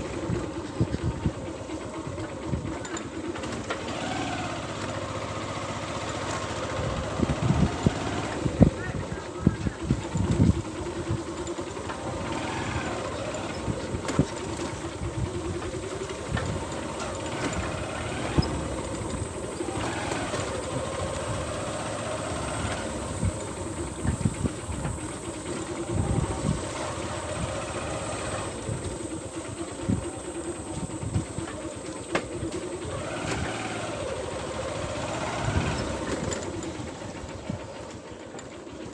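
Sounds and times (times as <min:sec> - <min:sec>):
small vehicle engine running: 0:00.0 - 0:38.9.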